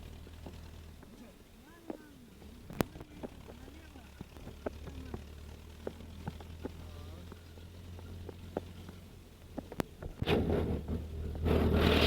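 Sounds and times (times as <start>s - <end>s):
car engine droning: 0.0s - 12.0s
rough rattling and rumbling: 0.0s - 12.0s.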